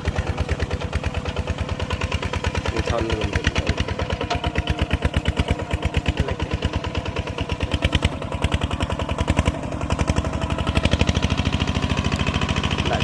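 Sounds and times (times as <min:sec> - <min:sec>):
farm machine engine chugging: 0:00.0 - 0:13.0.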